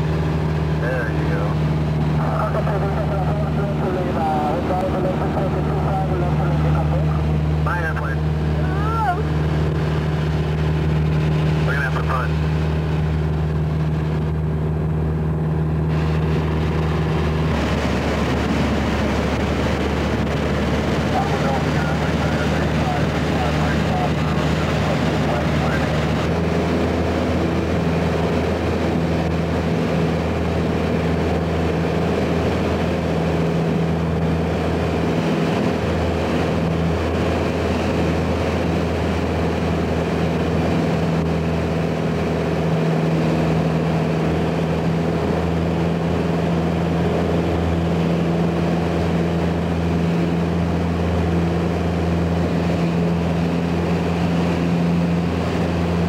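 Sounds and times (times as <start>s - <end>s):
propeller airplane engine droning: 0.0s - 56.0s.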